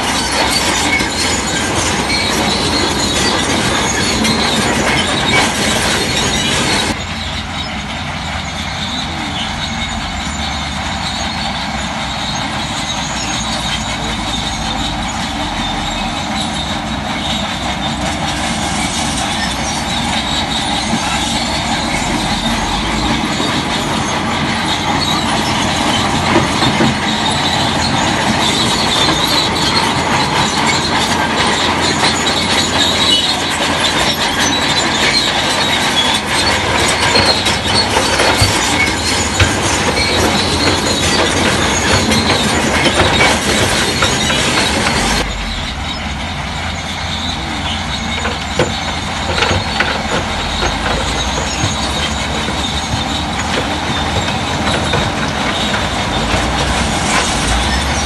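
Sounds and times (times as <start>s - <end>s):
bulldozer engine under load: 0.0s - 58.0s
steel tracks clanking and squealing: 0.0s - 58.0s.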